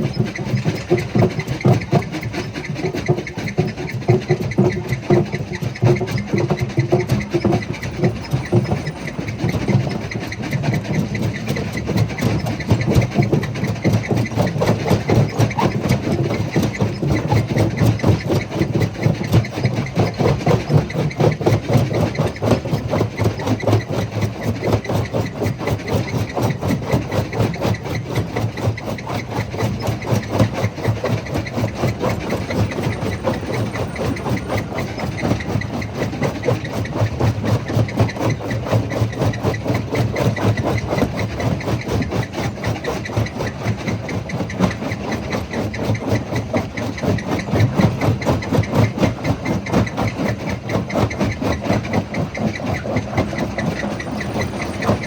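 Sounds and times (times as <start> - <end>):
jaw crusher churning: 0.0 - 55.0.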